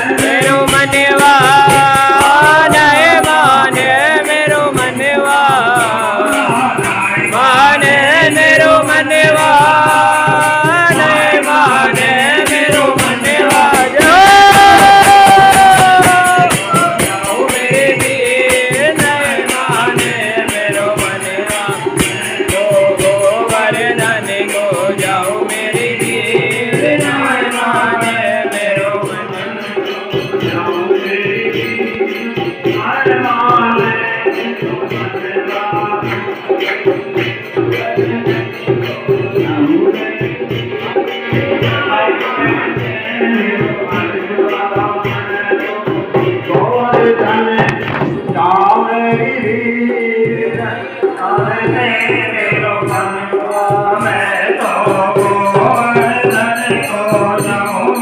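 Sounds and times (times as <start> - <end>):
hand drum beating: 0.0 - 34.0, 44.8 - 58.0
hand cymbals jingling: 0.0 - 58.0
keyboard: 0.0 - 58.0
men singing devotional song: 0.0 - 58.0
rattling percussion: 0.0 - 58.0.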